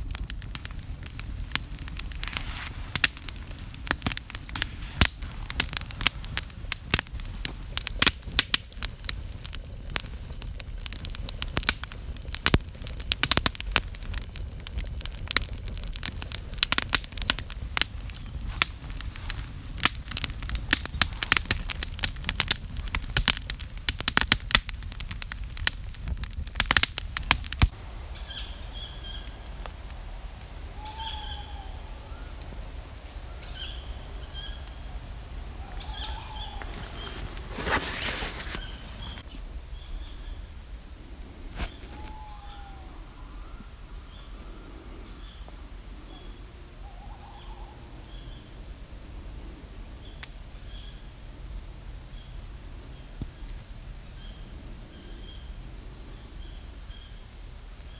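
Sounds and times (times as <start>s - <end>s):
campfire crackling and popping: 0.0s - 44.7s, 48.1s - 55.6s
low rumble of flame: 0.0s - 57.9s.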